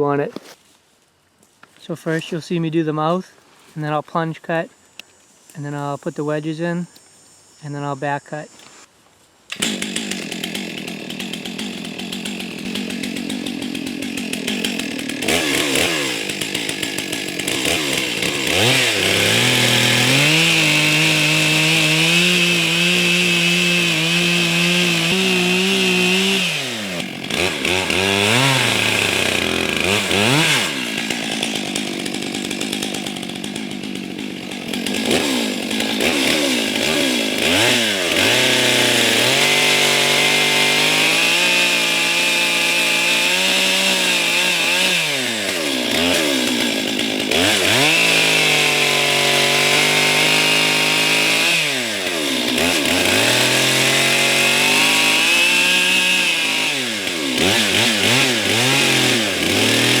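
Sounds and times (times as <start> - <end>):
chainsaw cutting wood: 9.5 - 60.0.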